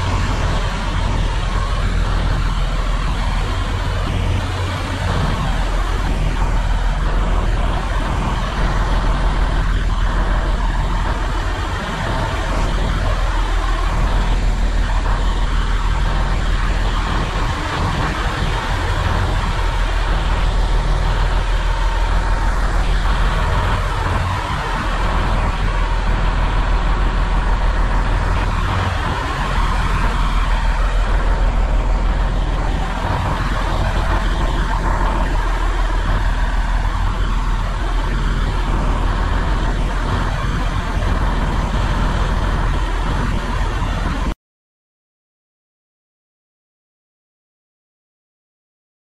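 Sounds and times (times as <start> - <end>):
diesel truck engine idling: 0.0 - 43.1.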